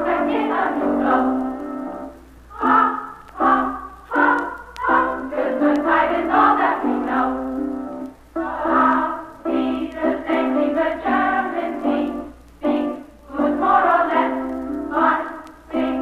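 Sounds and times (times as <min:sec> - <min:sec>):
chorus singing: 0:00.0 - 0:16.0
faint low hum: 0:00.0 - 0:16.0.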